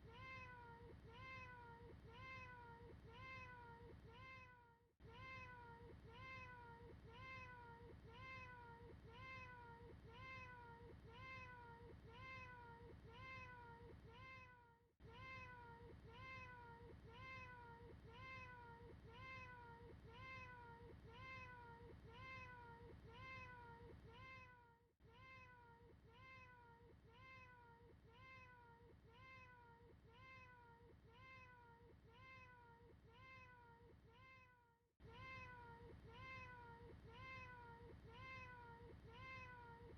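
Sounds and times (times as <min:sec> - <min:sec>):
faint cat meows: 0:00.0 - 0:39.9.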